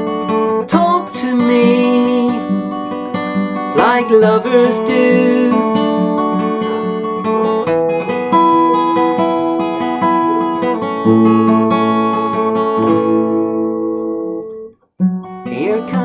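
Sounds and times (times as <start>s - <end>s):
finger-picked acoustic guitar: 0.0s - 16.0s.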